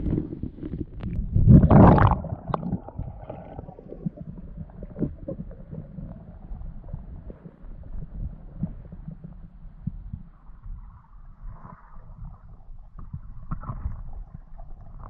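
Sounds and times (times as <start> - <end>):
underwater water noise: 0.0 - 15.0.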